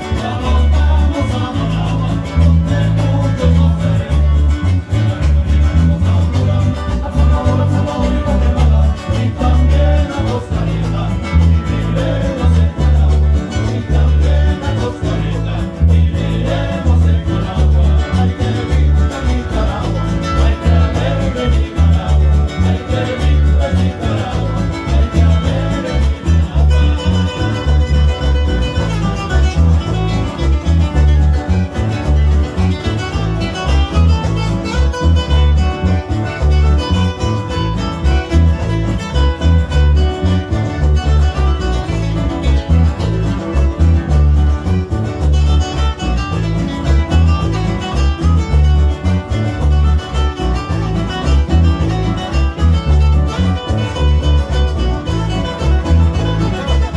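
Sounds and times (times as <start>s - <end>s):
bouncing bass guitar beat: 0.0s - 56.9s
percussion: 0.0s - 56.9s
strummed acoustic guitars: 0.0s - 56.9s.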